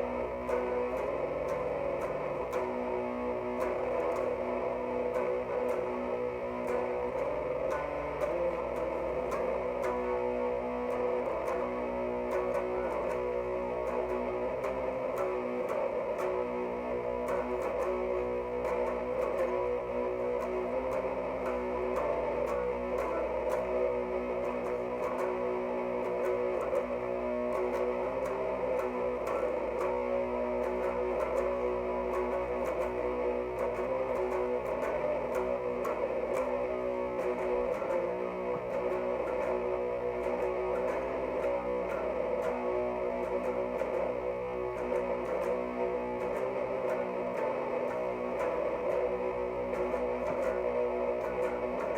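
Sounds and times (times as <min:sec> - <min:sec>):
overdriven electric guitar riff: 0:00.0 - 0:51.9.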